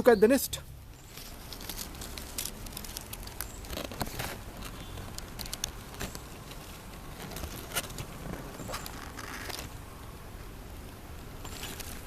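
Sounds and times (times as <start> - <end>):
leaves and twigs rustling: 0.0 - 12.0.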